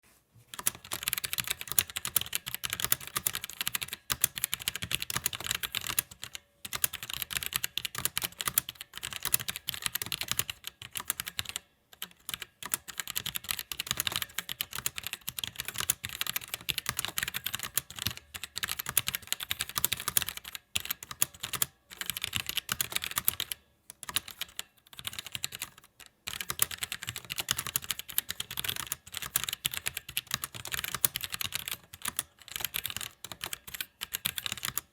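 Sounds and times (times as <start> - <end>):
mechanical keyboard typing: 0.5 - 34.9.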